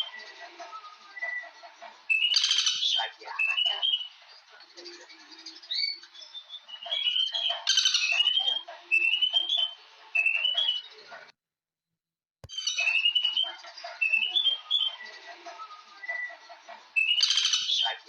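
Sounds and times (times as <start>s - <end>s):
birds singing and calling: 0.0s - 11.3s, 12.5s - 18.0s.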